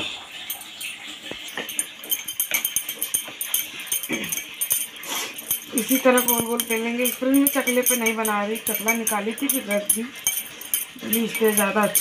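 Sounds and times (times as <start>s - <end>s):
light metallic jingling: 0.3s - 12.0s.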